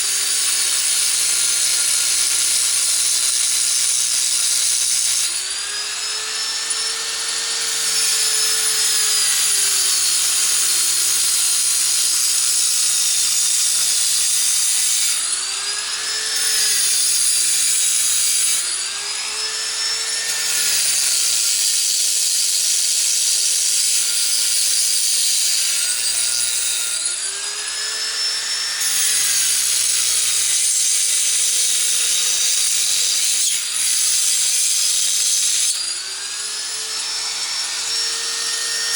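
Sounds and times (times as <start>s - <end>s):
grinder motor whine: 0.0s - 21.6s, 22.5s - 38.9s
grinder cutting rock: 0.0s - 38.9s.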